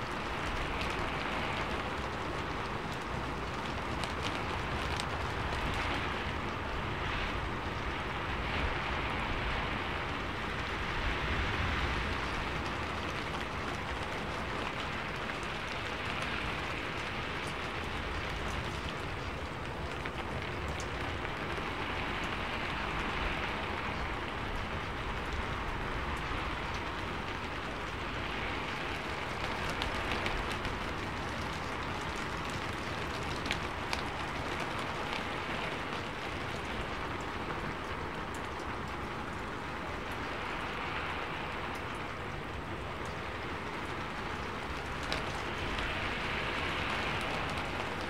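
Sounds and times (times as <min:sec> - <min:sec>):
raindrop ticks: 0:00.0 - 0:48.0
steady rain hiss: 0:00.0 - 0:48.0.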